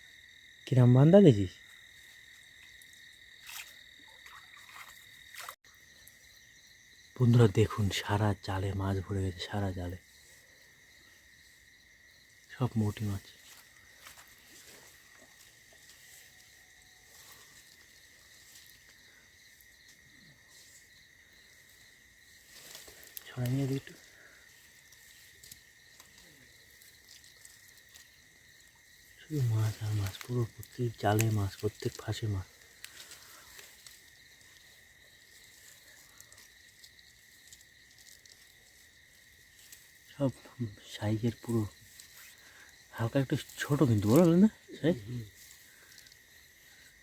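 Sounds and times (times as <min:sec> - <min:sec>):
crickets chirring: 0:00.0 - 0:47.0
faint rustles and ticks: 0:07.6 - 0:47.0.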